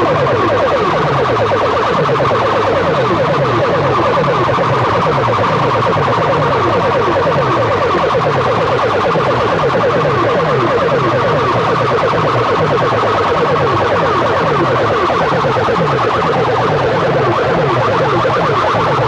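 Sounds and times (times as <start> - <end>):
siren-like electronic tone sweeps: 0.0 - 19.0.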